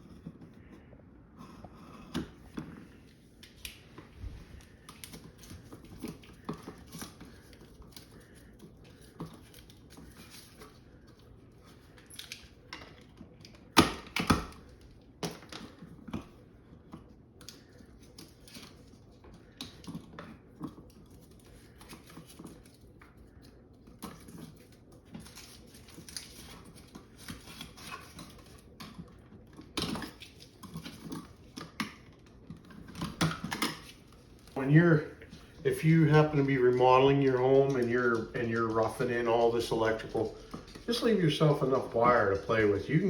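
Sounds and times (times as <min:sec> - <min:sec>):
cable rustling: 0:02.2 - 0:13.8, 0:15.6 - 0:43.0.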